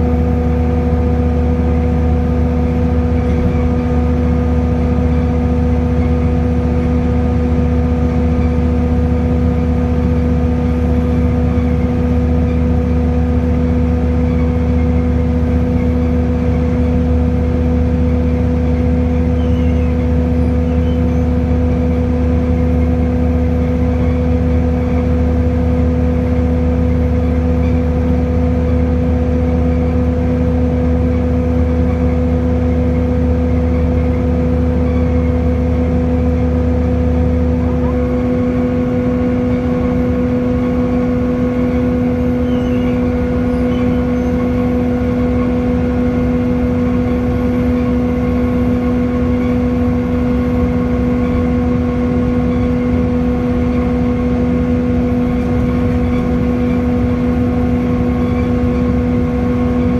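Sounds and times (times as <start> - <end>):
diesel bus engine under load: 0.0 - 59.9
high engine whine: 0.0 - 59.9.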